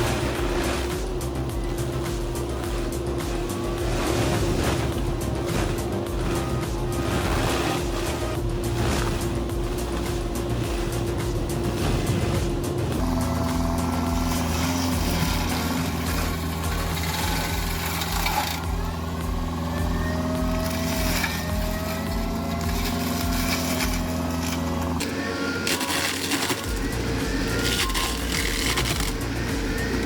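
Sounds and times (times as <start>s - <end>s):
wood-processing machine running: 0.0s - 30.0s.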